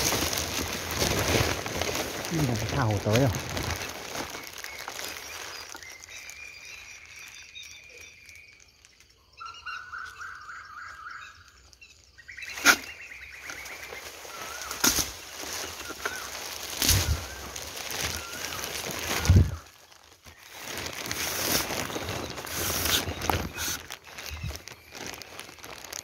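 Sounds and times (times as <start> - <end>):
clicks and knocks in branches: 0.0 - 9.1, 12.4 - 26.0.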